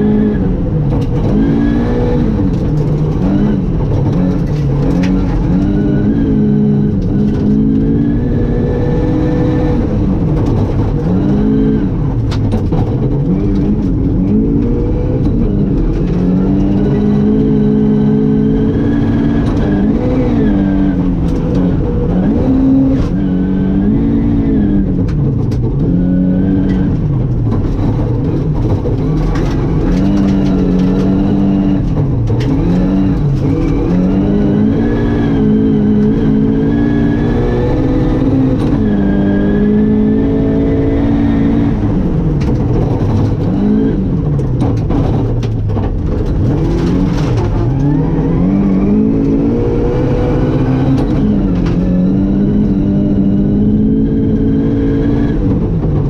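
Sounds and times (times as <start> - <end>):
rally car engine revving hard: 0.0 - 56.0.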